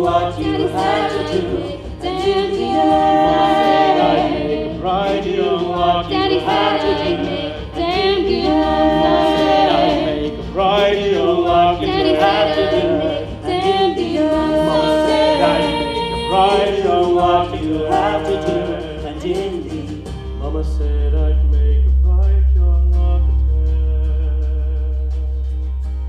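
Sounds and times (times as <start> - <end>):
young man singing with vibrato: 0.0 - 25.3
musical accompaniment: 0.0 - 26.0.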